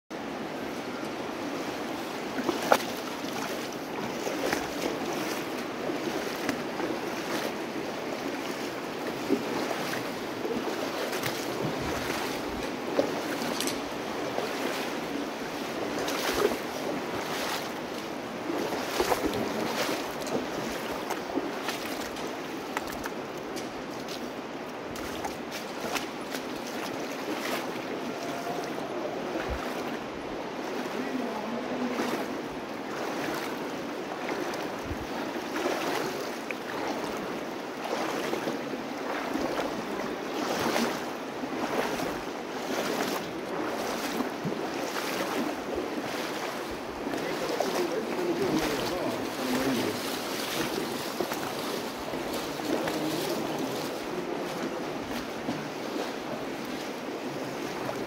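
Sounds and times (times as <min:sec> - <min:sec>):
shallow flowing water: 0:00.1 - 0:58.0
sharp splashes and knocks: 0:02.3 - 0:24.3, 0:24.9 - 0:28.0, 0:31.9 - 0:56.1.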